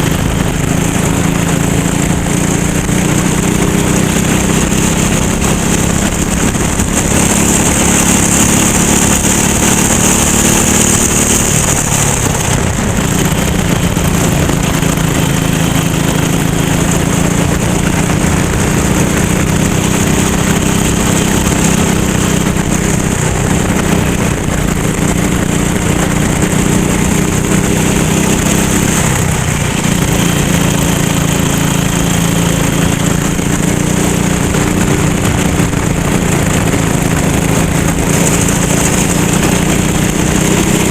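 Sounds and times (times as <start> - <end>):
kart engine racing: 0.0 - 40.9.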